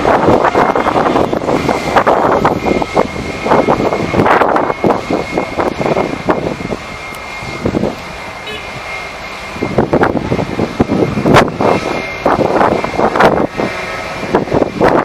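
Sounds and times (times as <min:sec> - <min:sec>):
jet engine whine: 0:00.0 - 0:15.0
wind gusts on microphone: 0:00.0 - 0:15.0.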